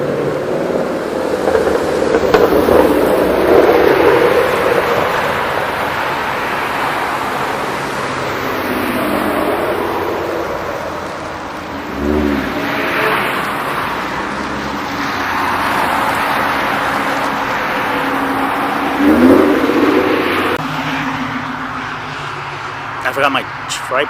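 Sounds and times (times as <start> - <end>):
car engines running: 0.0 - 24.0
cars driving past: 0.0 - 24.0.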